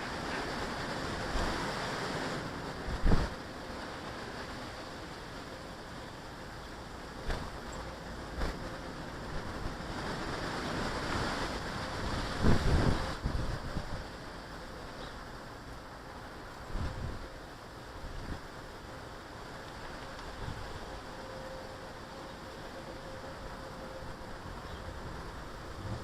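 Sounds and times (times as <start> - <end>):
wind gusting over microphone: 0.0 - 26.0.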